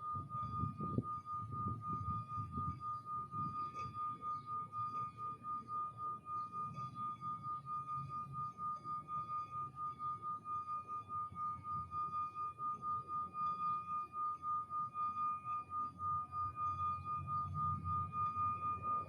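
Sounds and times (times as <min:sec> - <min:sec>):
singing bowl tone: 0:00.0 - 0:19.0.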